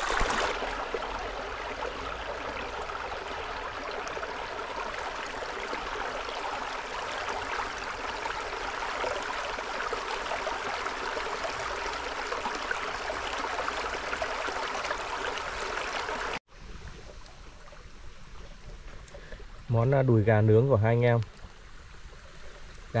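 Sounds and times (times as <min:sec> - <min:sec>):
shallow stream running: 0:00.0 - 0:23.0.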